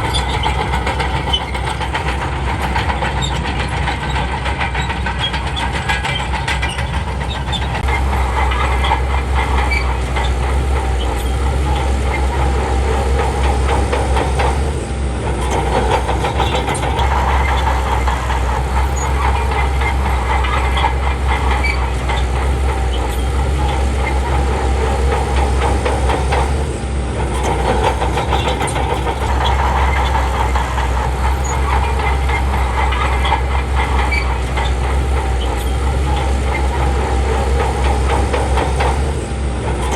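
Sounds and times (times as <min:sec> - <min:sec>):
diesel engine under load: 0:00.0 - 0:39.9
steel tracks clattering: 0:00.0 - 0:39.9.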